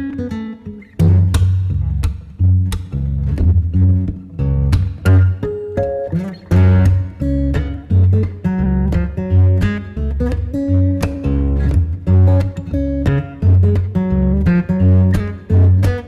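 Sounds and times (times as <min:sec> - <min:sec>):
acoustic guitar music: 0:00.0 - 0:16.0
deep bass notes: 0:01.0 - 0:05.4, 0:06.2 - 0:16.0.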